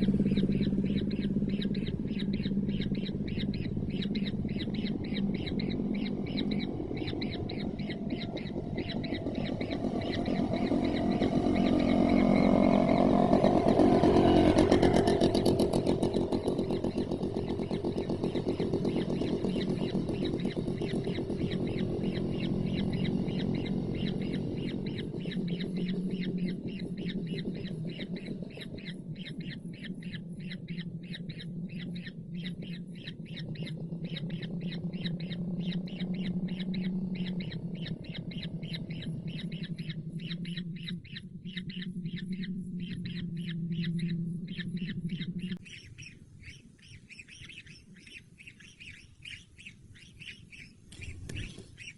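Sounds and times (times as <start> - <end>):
bird chick squawking: 0.0 - 51.9
steady low drone: 0.0 - 51.9.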